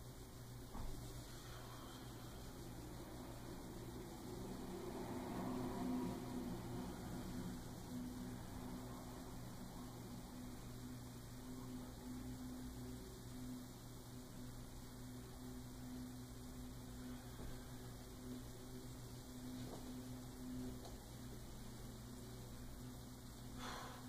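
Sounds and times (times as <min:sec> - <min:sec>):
low electrical hum with hiss: 0:00.0 - 0:24.0.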